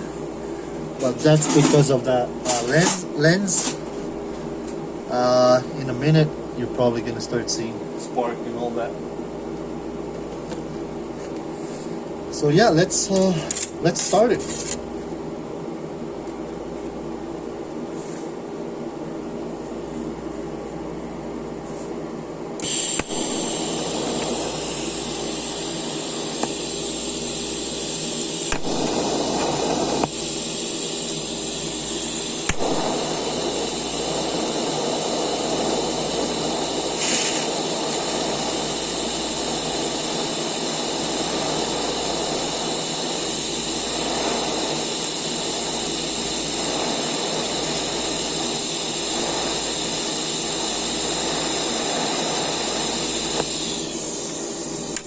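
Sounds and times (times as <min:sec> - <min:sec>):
welding arc hissing and whining: 0:00.0 - 0:08.9, 0:09.8 - 0:14.9, 0:22.6 - 0:55.0
low machine hum: 0:00.0 - 0:55.0.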